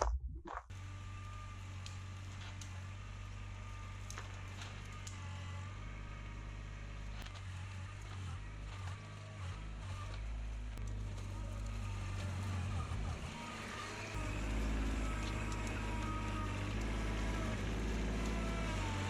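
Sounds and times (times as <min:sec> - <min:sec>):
tractor diesel engine running: 0:00.7 - 0:19.0.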